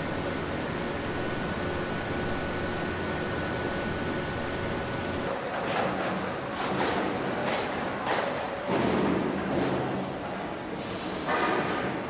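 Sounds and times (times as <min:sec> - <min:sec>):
machinery humming and hissing: 0:00.0 - 0:12.0.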